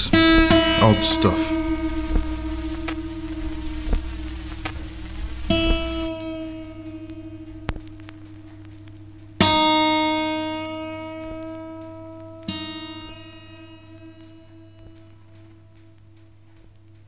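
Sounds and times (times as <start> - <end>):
high guitar note plucked: 0.0 - 16.6.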